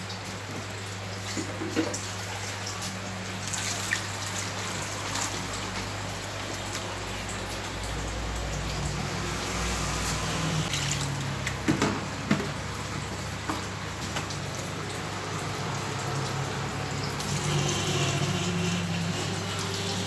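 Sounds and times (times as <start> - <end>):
water trickling and dripping: 0.0 - 20.0.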